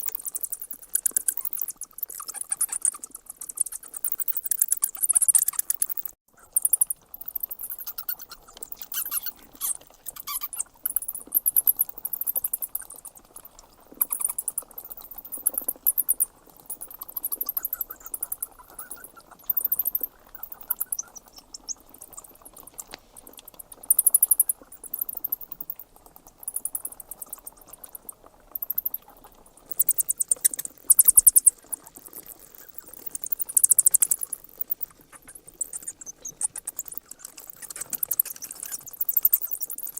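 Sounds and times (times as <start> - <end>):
bats squeaking: 0.0 - 39.9.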